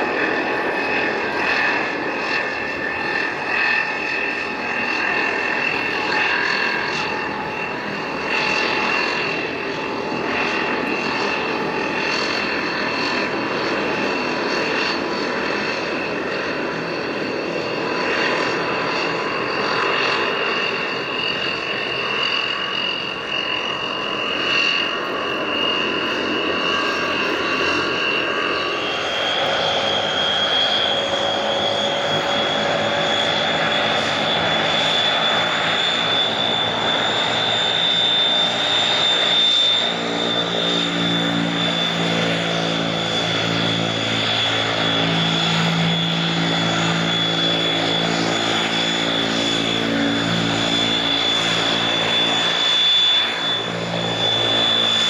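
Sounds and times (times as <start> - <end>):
low propeller hum: 0.0 - 55.0
turboprop engine whine: 0.0 - 55.0.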